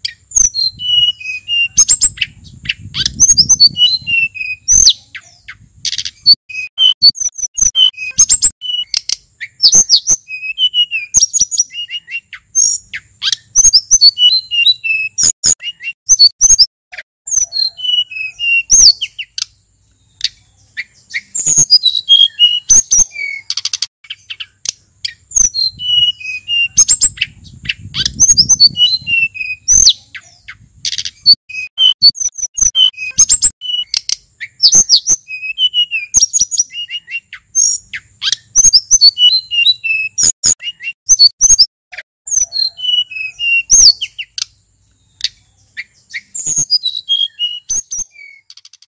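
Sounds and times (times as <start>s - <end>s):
songbird singing chirps and whistles: 0.0s - 48.9s.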